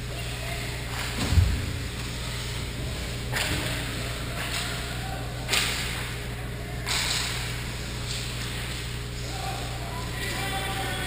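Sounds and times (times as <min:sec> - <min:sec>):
low hum in echoing hall: 0:00.0 - 0:11.0.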